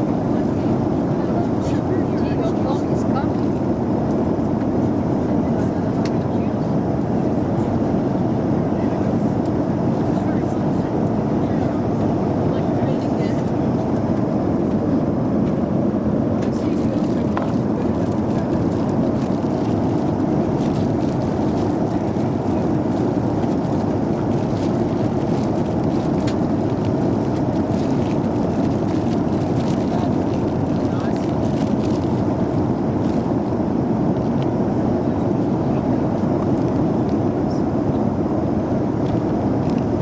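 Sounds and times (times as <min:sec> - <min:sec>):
airliner cabin engine drone: 0:00.0 - 0:40.0.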